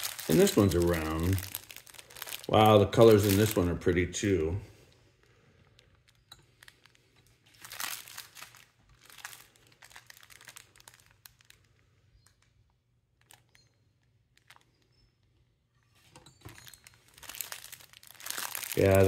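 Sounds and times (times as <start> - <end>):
plastic bag crinkling: 0.0 - 15.2, 16.4 - 19.0.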